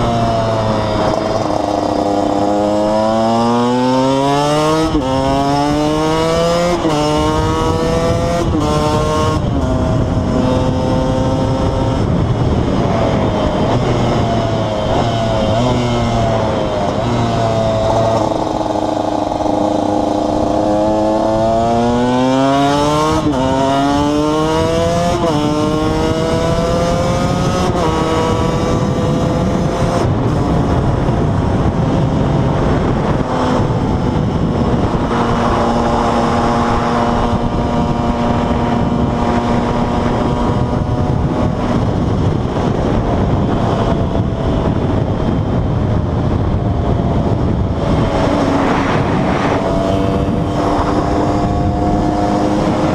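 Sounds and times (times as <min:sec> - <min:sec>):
two-stroke engine accelerating: 0:00.0 - 0:52.9.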